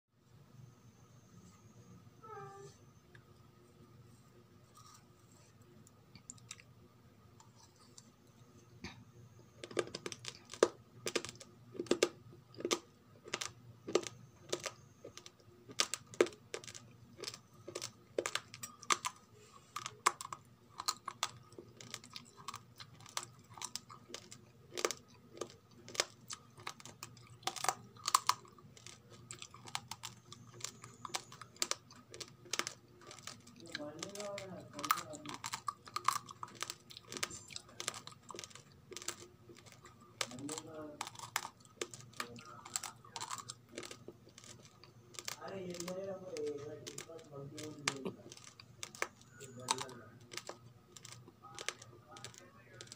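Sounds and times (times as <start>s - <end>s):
rice grains crunched between teeth: 9.6s - 52.9s.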